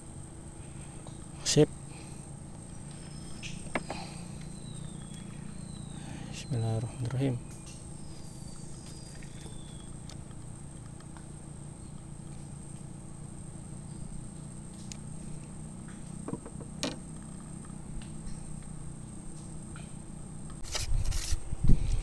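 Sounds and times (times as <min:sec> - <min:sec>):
high whine: 0:00.0 - 0:22.0
low hum: 0:00.0 - 0:22.0.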